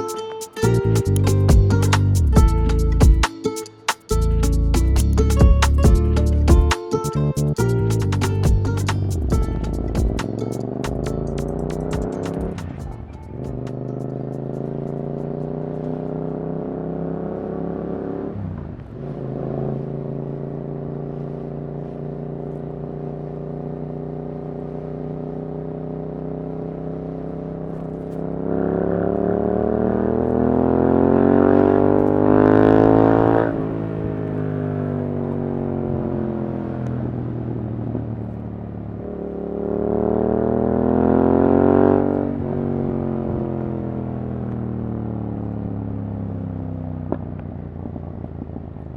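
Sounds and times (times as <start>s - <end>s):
motorcycle engine revving: 4.2s - 36.8s, 39.0s - 47.4s.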